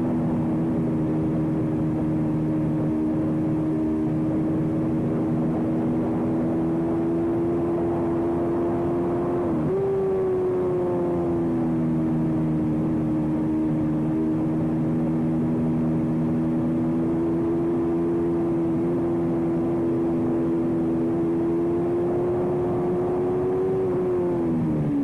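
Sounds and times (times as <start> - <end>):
motorcycle engine at high revs: 0.0 - 25.0.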